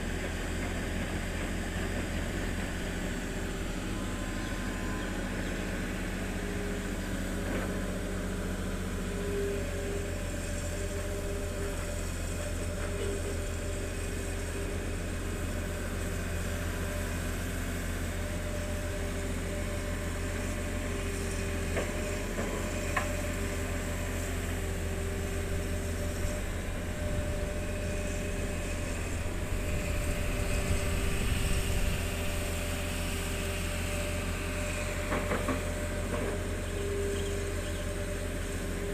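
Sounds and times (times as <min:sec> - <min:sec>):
excavator diesel engines running: 0:00.0 - 0:38.9.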